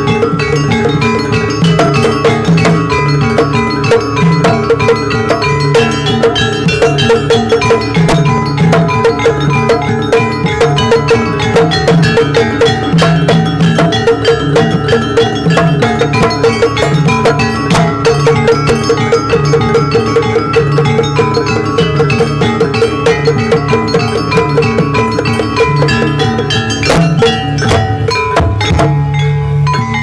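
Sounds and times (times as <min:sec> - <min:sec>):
gamelan ensemble music: 0:00.0 - 0:30.0.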